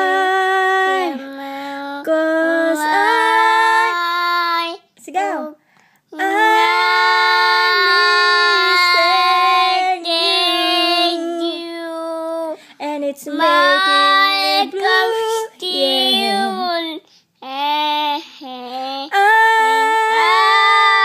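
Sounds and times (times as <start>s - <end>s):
toddler singing without words: 0.0s - 5.6s, 6.2s - 21.0s.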